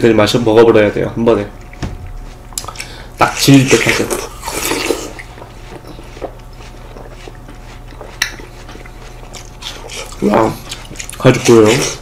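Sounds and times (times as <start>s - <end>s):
wet chewing of watermelon: 1.4s - 12.0s.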